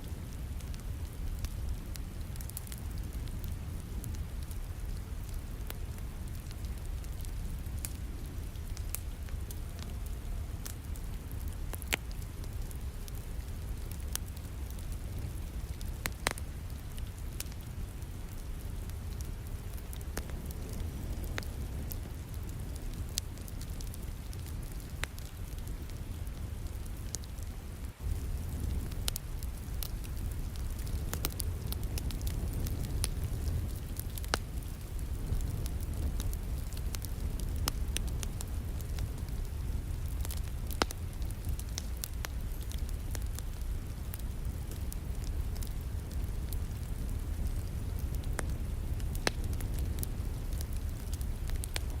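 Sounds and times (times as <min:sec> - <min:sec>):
rain falling: 0:00.0 - 0:52.0
wood fire crackling: 0:00.0 - 0:52.0.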